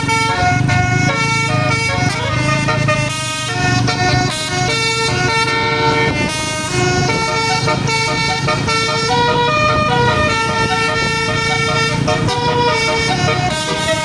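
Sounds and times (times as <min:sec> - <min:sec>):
musical bus horn playing tune: 0:00.0 - 0:14.0.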